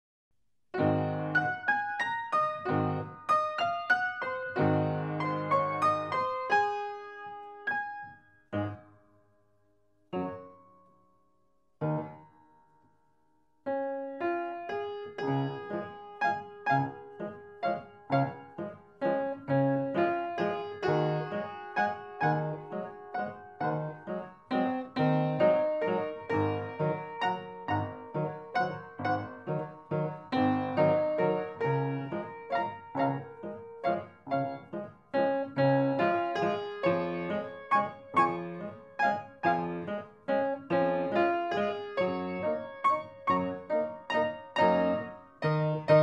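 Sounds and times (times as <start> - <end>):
piano music: 0.8 - 9.0, 10.1 - 10.9, 11.8 - 12.4, 13.7 - 46.0.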